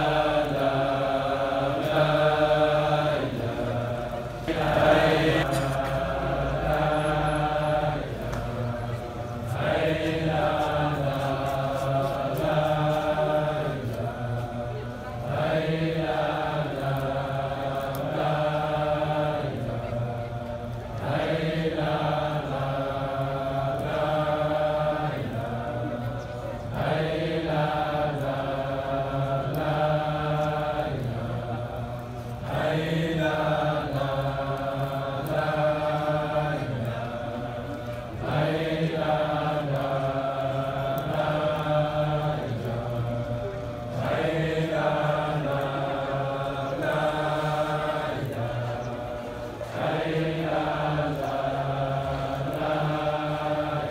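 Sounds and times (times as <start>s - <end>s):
many voices chanting in unison: 0.0s - 53.9s.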